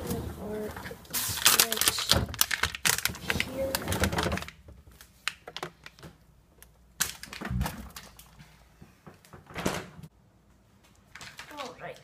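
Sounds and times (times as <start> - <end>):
items handled in a refrigerator: 0.0 - 10.1, 10.8 - 12.0.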